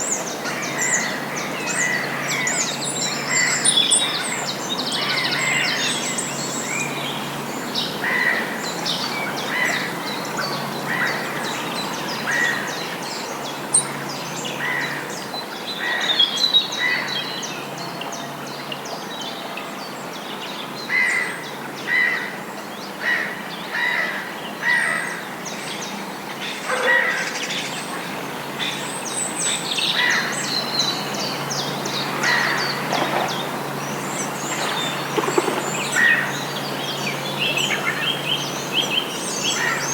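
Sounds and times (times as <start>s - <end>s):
steady background noise: 0.0s - 39.9s
wild birds singing: 0.0s - 39.9s.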